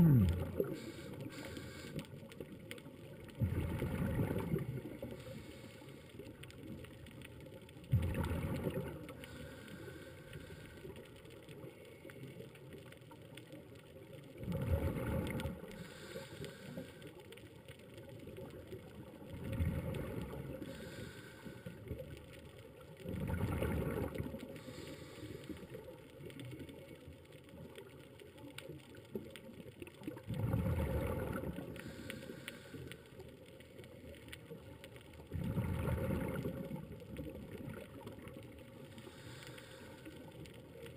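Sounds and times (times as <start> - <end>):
exhaled air bubbling: 0.0 - 12.3, 13.0 - 40.9.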